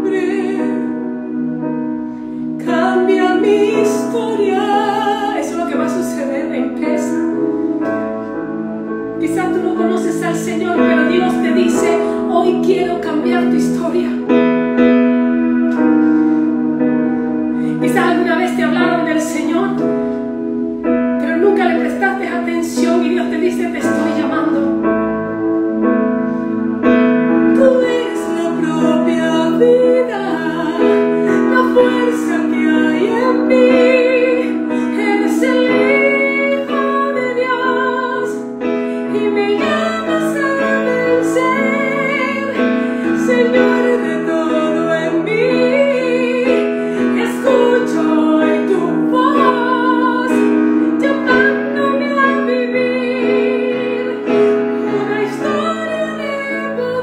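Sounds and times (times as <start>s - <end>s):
woman singing with vibrato: 0.0s - 1.2s, 2.6s - 7.5s, 9.2s - 14.4s, 17.6s - 20.3s, 21.2s - 24.9s, 27.5s - 57.0s
sustained keyboard chords: 0.0s - 57.0s.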